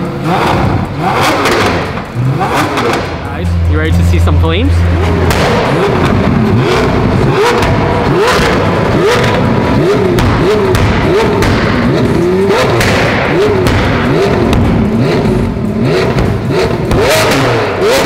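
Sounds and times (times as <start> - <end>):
car engine revving: 0.0 - 18.0
exhaust cracks: 0.0 - 18.0.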